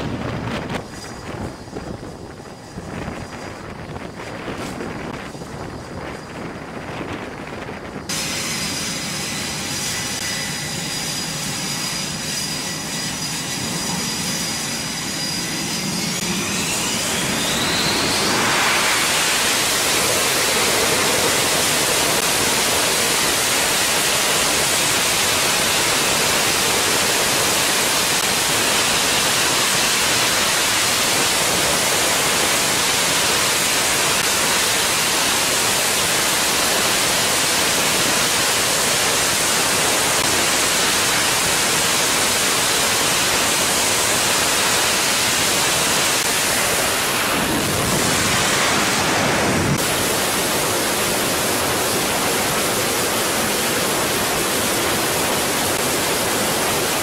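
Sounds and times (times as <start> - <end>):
jet engine whine and roar: 0.0 - 57.0.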